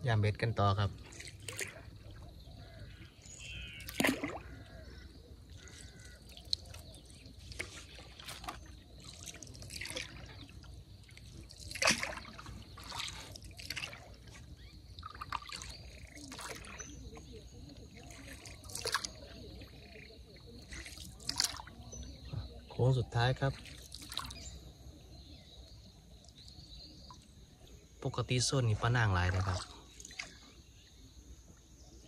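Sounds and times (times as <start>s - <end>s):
water trickling and splashing: 0.0s - 31.1s.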